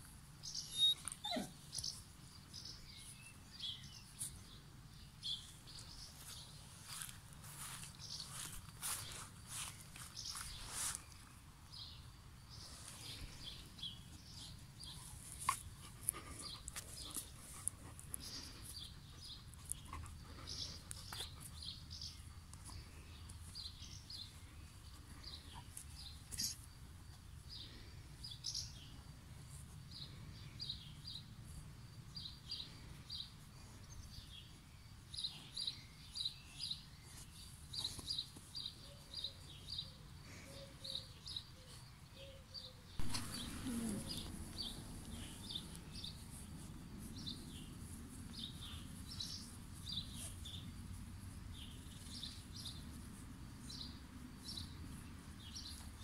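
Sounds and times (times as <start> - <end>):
small birds chirping: 0.4 - 56.0.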